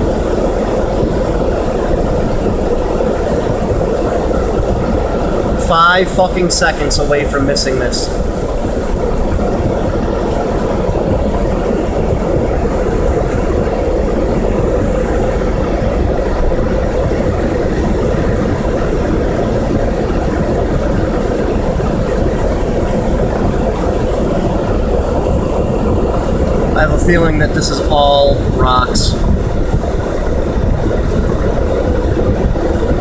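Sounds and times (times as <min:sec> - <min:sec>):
rushing floodwater and rocks: 0:00.0 - 0:33.0.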